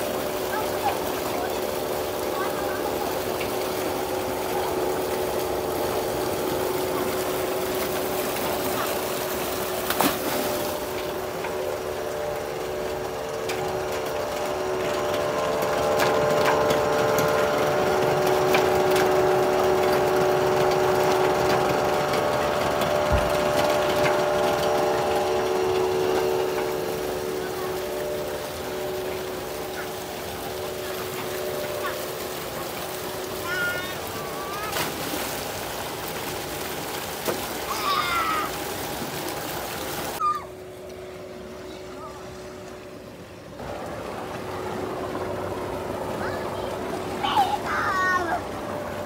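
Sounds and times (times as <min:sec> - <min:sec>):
water pump humming: 0:00.0 - 0:49.0.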